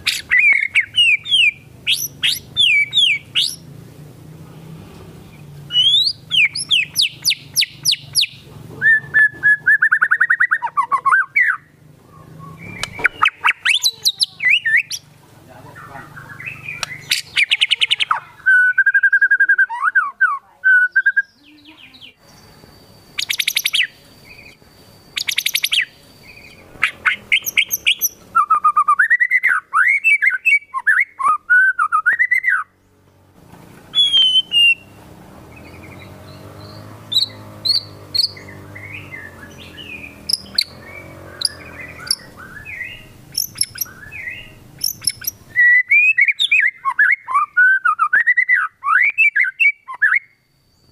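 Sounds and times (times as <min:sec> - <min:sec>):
bird singing whistled phrases: 0:00.0 - 0:03.6, 0:05.7 - 0:15.1, 0:16.1 - 0:32.7, 0:33.9 - 0:35.0, 0:35.6 - 0:50.9.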